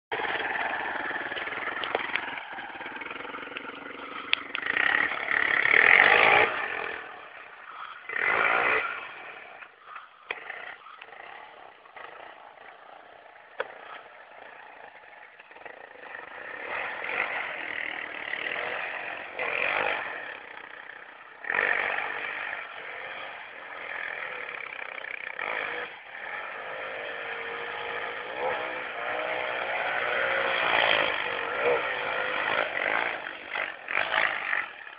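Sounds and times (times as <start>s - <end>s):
quad engine revving: 0.1s - 34.9s.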